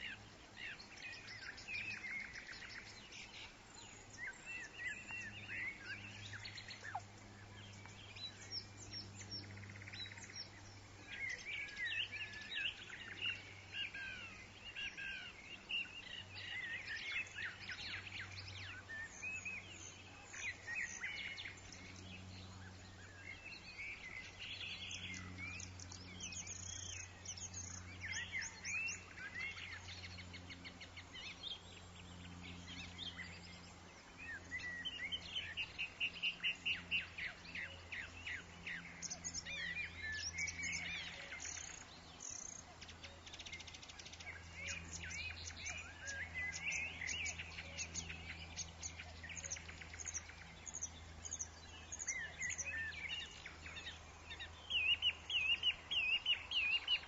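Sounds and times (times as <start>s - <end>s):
birds chirping and singing: 0.0s - 57.0s
steady low hum: 0.0s - 57.0s.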